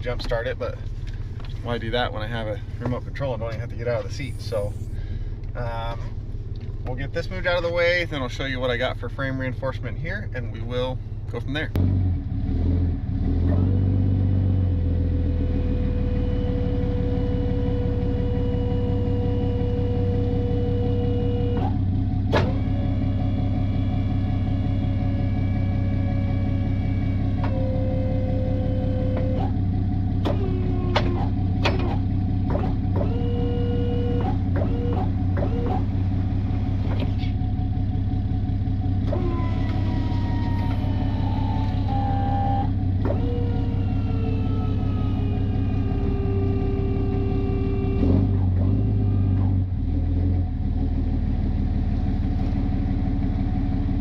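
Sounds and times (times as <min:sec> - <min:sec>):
hydraulics whining: 0:00.0 - 0:50.9
truck engine running: 0:00.0 - 0:54.0.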